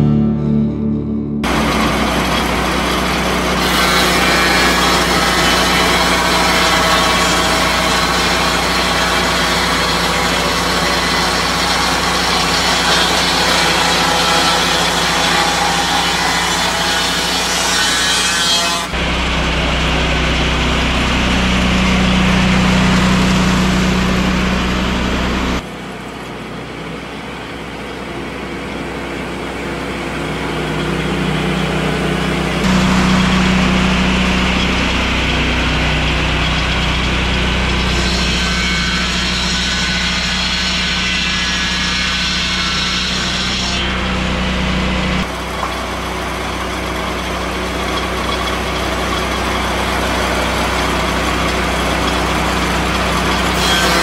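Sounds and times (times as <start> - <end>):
sawmill engine running: 1.4 - 54.0.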